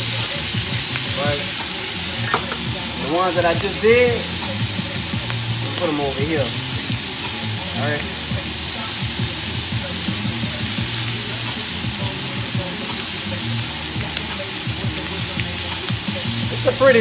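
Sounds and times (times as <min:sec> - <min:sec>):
background music: 0:00.0 - 0:17.0
shrimp sizzling in a grill pan: 0:00.0 - 0:17.0.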